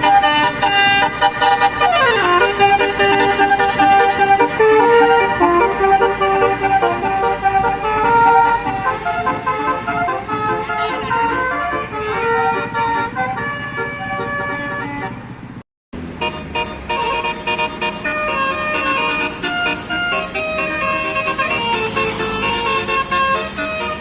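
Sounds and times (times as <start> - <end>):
musical bus horn playing tune: 0.0 - 15.4, 16.0 - 24.0
low engine noise: 0.0 - 24.0.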